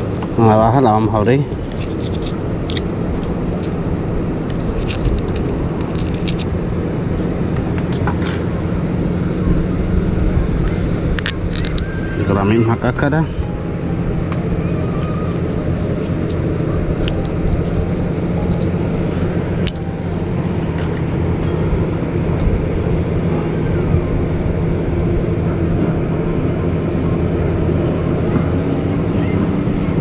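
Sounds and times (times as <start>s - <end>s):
low motor hum: 0.0s - 30.0s.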